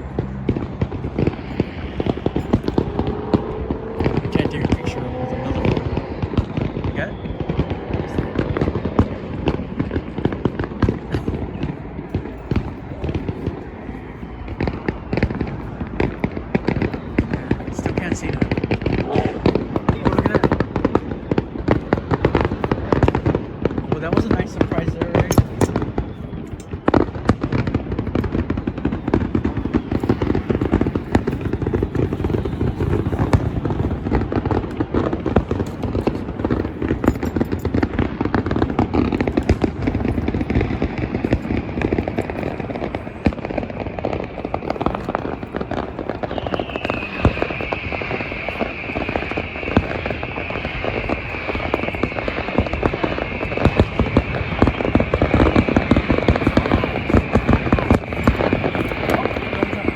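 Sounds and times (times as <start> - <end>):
fireworks popping and crackling: 0.0 - 59.9.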